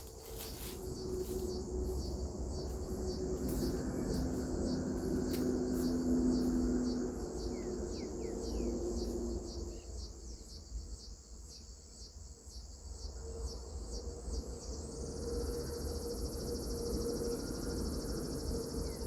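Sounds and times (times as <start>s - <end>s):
high insect drone: 0.0s - 19.0s
insects chirring: 0.0s - 19.0s.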